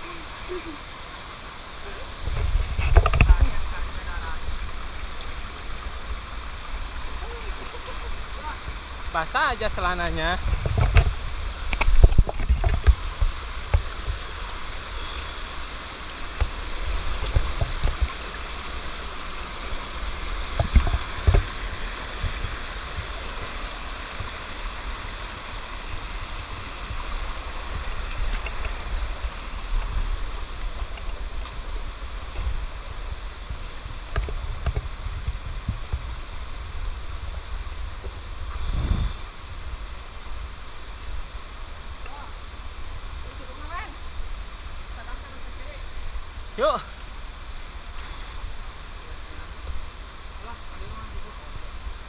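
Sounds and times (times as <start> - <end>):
stream rushing over boulders: 0.0 - 52.0.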